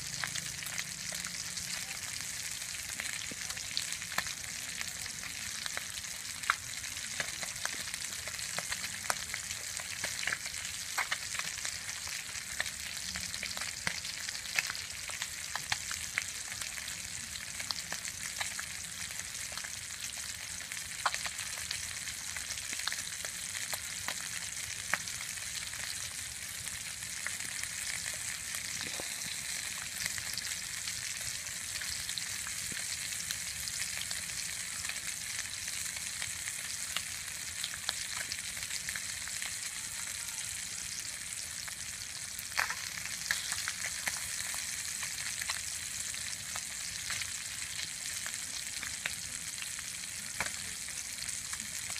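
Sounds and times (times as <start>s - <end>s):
fish sizzling in hot oil: 0.0s - 51.9s
oil popping and crackling: 0.0s - 51.9s.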